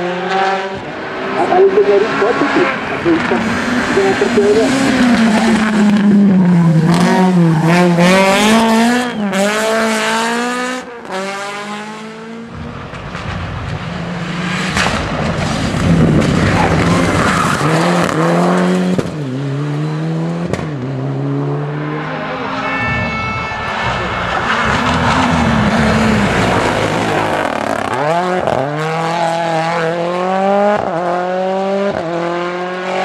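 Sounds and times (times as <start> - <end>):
rally car accelerating: 0.0 - 33.0
rally car engine revving: 0.0 - 33.0.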